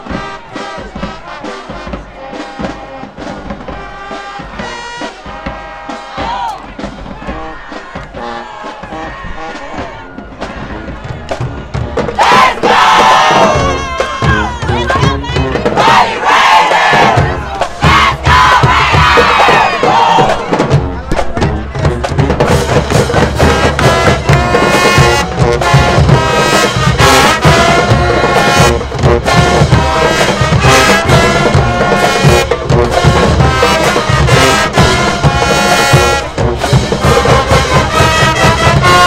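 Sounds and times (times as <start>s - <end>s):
bass and snare drums: 0.0s - 39.0s
brass instruments playing: 0.0s - 39.0s.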